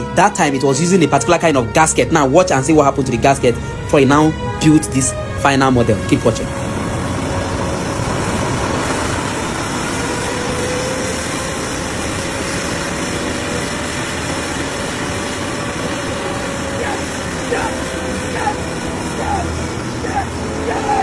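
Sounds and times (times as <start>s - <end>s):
jet engine roaring with faint whine: 0.0s - 21.0s.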